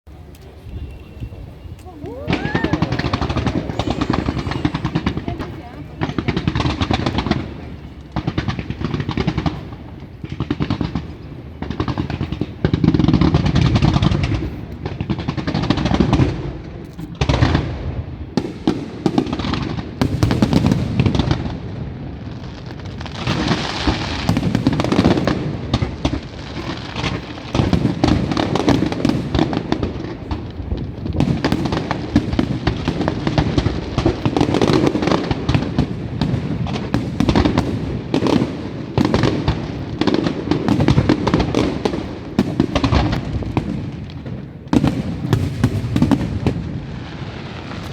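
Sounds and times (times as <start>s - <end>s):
aerial fireworks booming and crackling: 1.8s - 47.9s.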